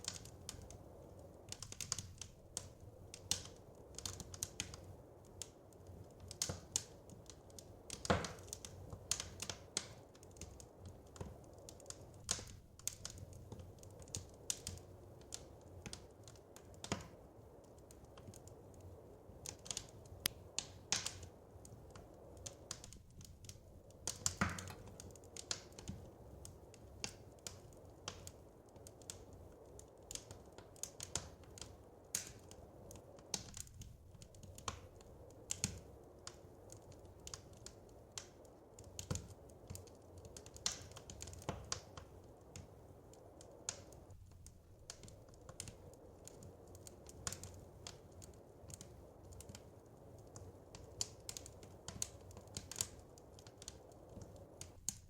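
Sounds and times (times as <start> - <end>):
low steady background hiss: 0.0 - 55.0
wood fire crackling: 0.0 - 55.0.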